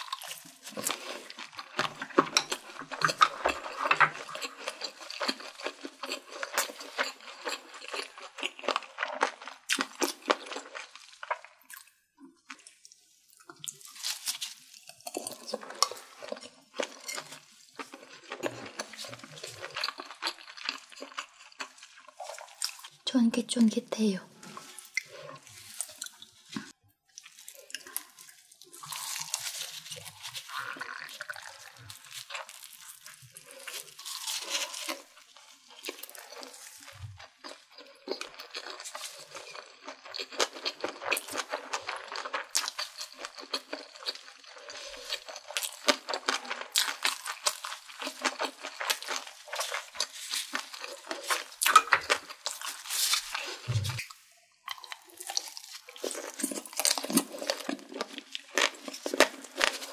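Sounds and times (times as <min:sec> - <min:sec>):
wet chewing sounds: 0:00.0 - 0:23.0, 0:24.4 - 0:59.9.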